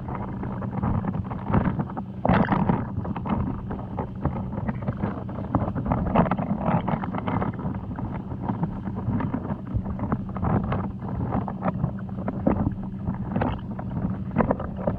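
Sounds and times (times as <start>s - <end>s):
rush of water noise: 0.0s - 14.9s
steady low hum: 0.0s - 14.9s
underwater crackling: 0.0s - 14.9s.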